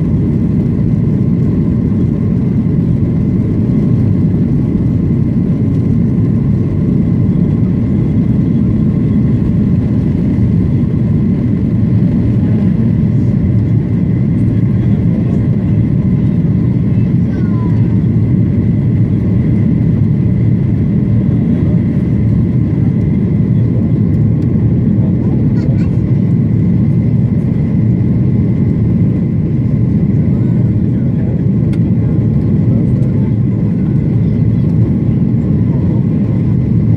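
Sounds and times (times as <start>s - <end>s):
jet engines and airflow in cabin: 0.0s - 36.9s.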